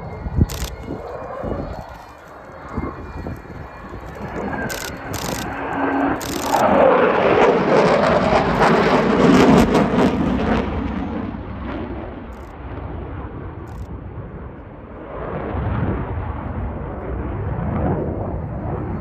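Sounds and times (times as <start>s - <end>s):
jet flying overhead: 0.0s - 19.0s.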